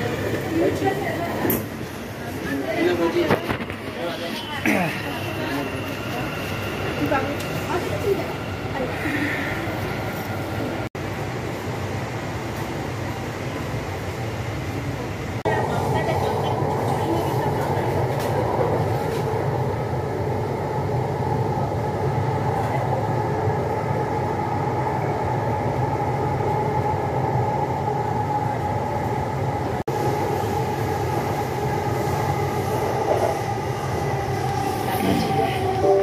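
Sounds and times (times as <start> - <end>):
metro train rumble: 0.0 - 36.0.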